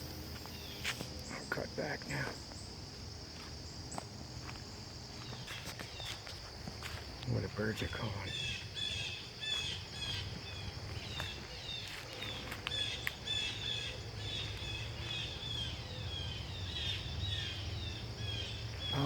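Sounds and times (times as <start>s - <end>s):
birds chirping: 0.0s - 6.6s, 7.2s - 19.0s
high insect buzz: 0.0s - 7.1s, 8.3s - 19.0s.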